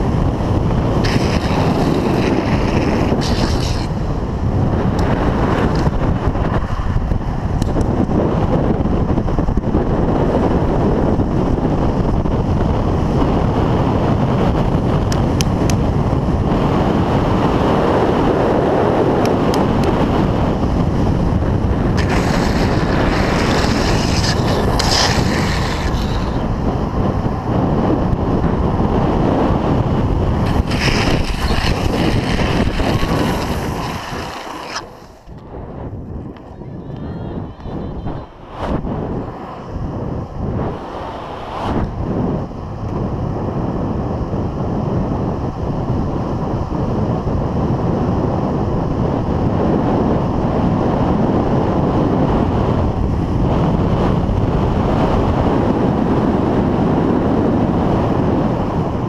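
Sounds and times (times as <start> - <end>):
wheels rolling on asphalt: 0.0 - 36.8, 37.4 - 59.0
wind roaring over microphone: 0.0 - 59.0.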